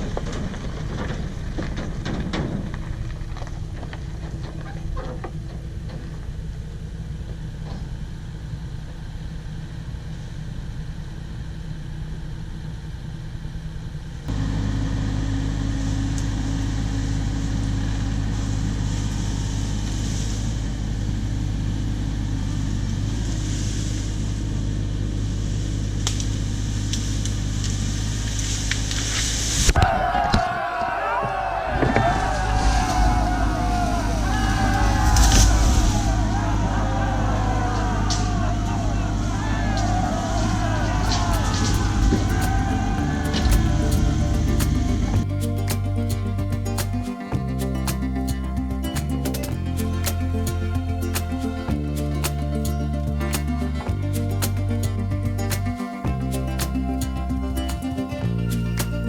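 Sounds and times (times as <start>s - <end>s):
diesel engine running: 0.0s - 29.7s, 30.8s - 59.0s.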